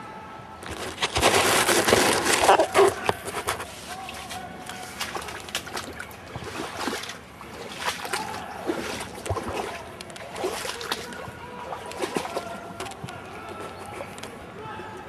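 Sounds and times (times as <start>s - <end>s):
river water rushing over stones: 0.8s - 14.3s.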